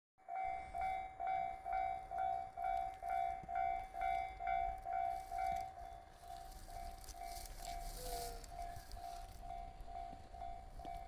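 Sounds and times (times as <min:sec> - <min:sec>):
level crossing warning bell: 0:00.2 - 0:11.0.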